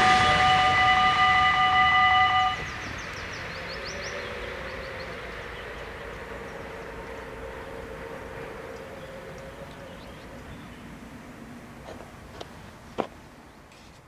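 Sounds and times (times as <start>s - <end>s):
crossing warning bells ringing: 0.0s - 12.9s
faint steady hum: 0.0s - 14.0s.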